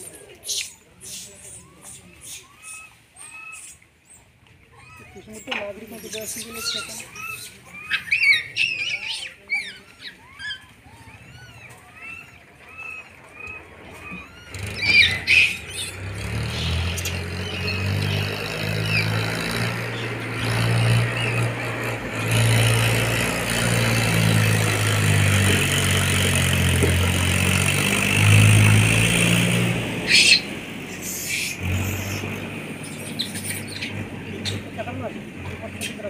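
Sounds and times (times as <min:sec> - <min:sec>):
monkey squealing: 0:00.0 - 0:26.6, 0:30.0 - 0:35.0
vehicle engine droning: 0:05.5 - 0:36.0.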